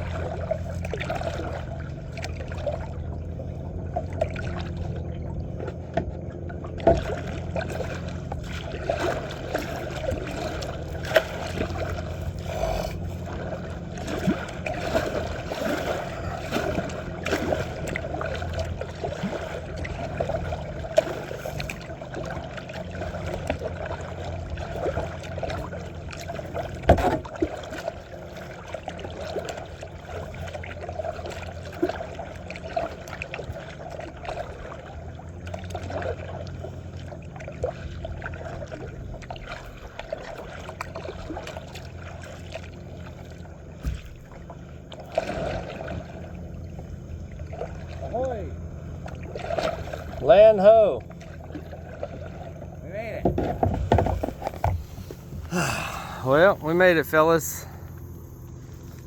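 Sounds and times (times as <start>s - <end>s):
kayak paddle splashing in water: 0.0s - 59.0s
water lapping: 0.0s - 59.0s.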